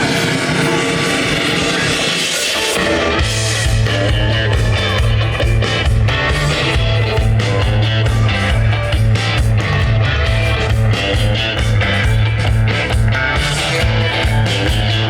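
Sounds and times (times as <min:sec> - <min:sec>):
instrumental rock band: 0:00.0 - 0:15.0.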